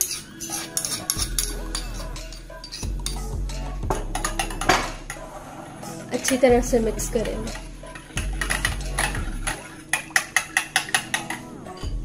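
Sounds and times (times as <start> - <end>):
spoon scraping and clinking bowl: 0.0 - 11.9.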